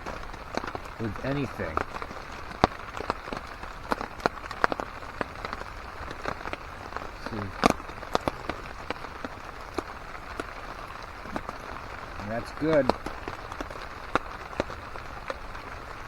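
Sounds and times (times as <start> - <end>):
rain pattering on a tarp: 0.0 - 16.0.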